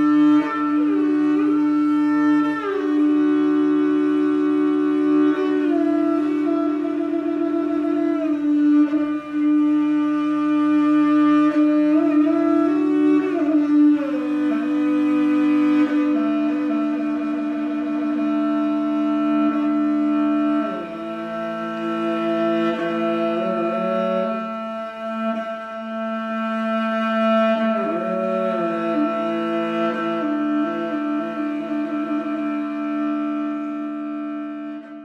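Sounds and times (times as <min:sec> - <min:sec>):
music with long held notes: 0:00.0 - 0:35.0.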